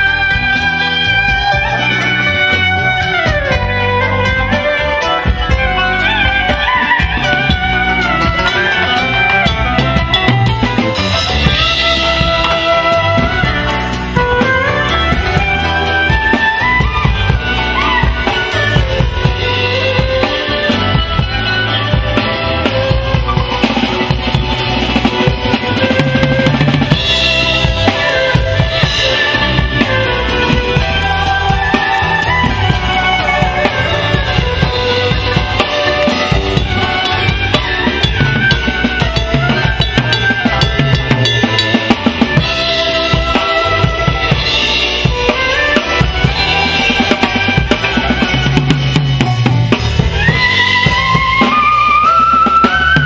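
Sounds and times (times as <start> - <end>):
bass: 0.0 - 53.0
clarinet melody: 0.0 - 53.0
drum kit beat: 0.0 - 53.0.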